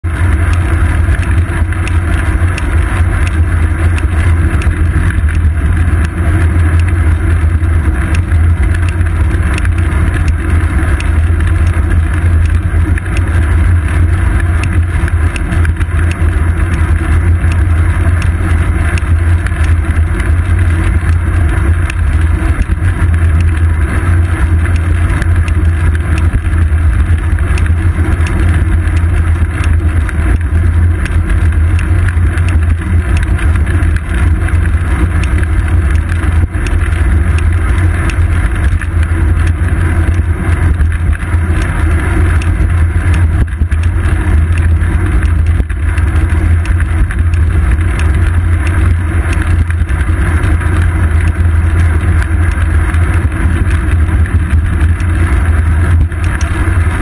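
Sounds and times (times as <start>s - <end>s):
wind and road rumble: 0.0s - 57.0s.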